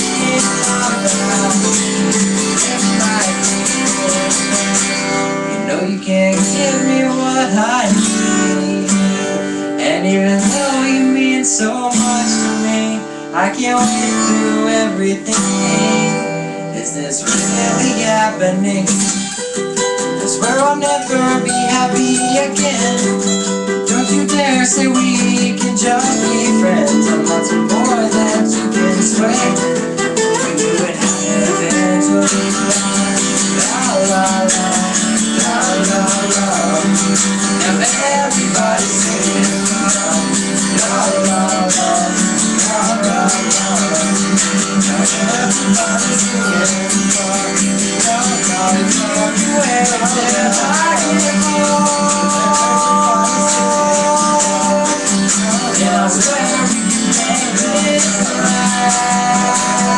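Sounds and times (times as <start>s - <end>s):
guitar playing: 0.0s - 59.9s
person singing: 0.0s - 59.9s.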